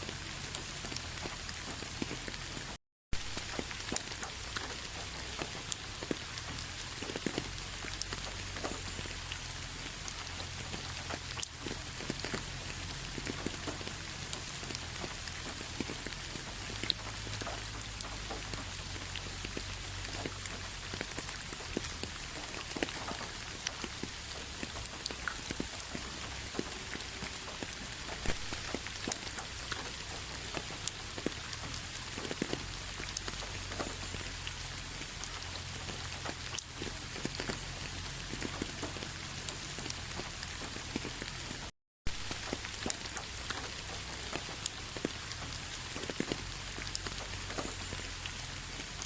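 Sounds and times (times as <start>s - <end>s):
raindrops pattering on a surface: 0.0s - 49.0s
steady rain: 0.0s - 49.0s.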